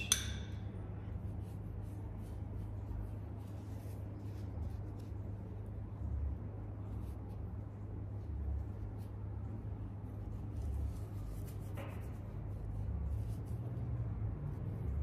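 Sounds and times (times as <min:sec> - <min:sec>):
soft rustling: 0:01.1 - 0:15.0.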